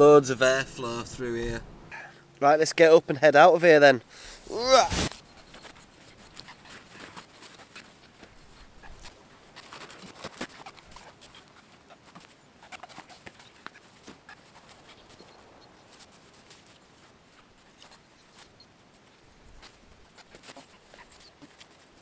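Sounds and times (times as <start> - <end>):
nylon gear rustling: 4.2 - 22.0.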